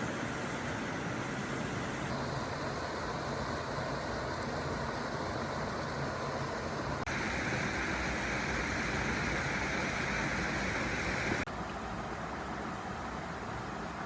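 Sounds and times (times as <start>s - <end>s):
stream water flowing: 0.0s - 11.5s.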